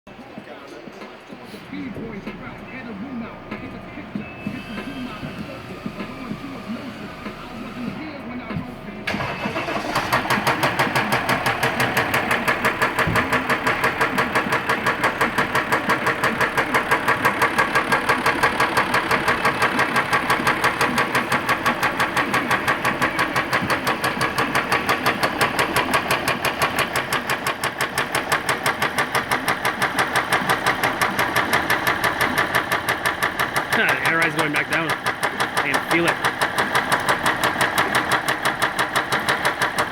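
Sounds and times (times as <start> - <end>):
diesel engine idling with knock: 0.2 - 39.9.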